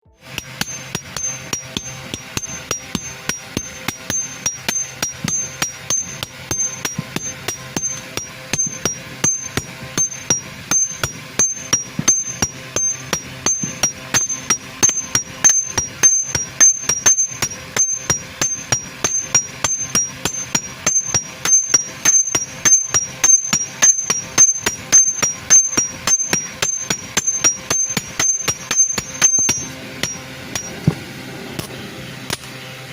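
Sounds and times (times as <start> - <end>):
hammer blows on metal: 0.2 - 32.6.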